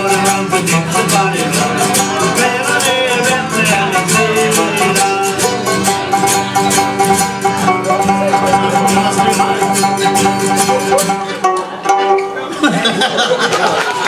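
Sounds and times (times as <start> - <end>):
accordion sustained notes: 0.0 - 12.6
acoustic guitar strumming: 0.0 - 13.4
banjo picking: 0.0 - 14.0.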